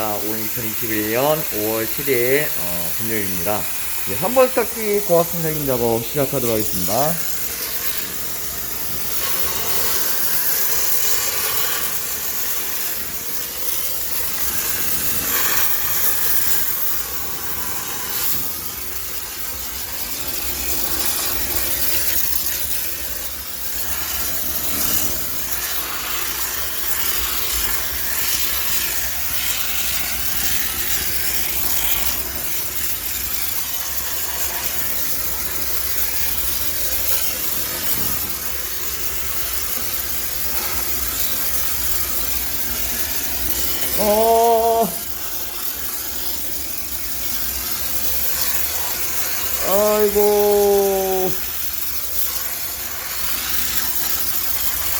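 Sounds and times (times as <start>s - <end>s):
steam cleaner hissing: 0.0s - 54.9s.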